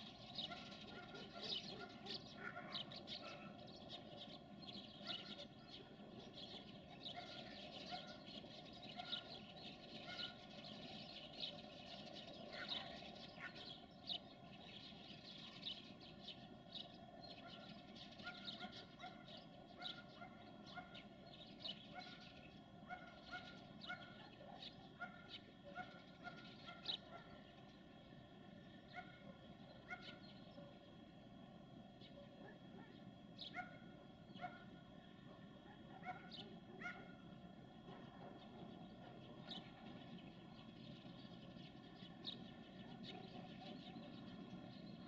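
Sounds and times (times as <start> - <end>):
faint birds chirping: 0.0 - 45.0.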